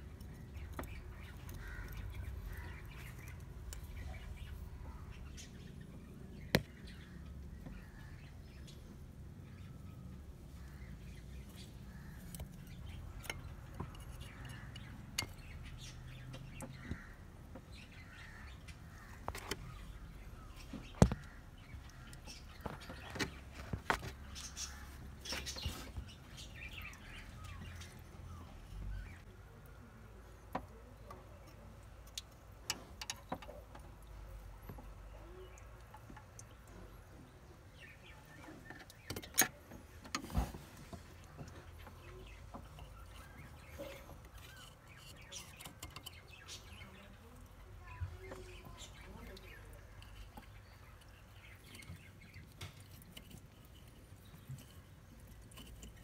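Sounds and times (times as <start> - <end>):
birds chirping faintly: 0.0 - 56.0.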